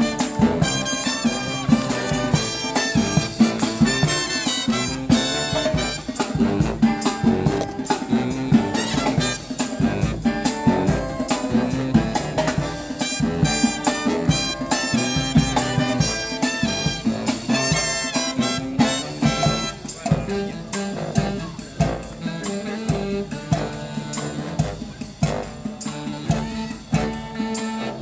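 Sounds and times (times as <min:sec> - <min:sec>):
brass instruments playing melody: 0:00.0 - 0:28.0
steady drum beat: 0:00.0 - 0:28.0.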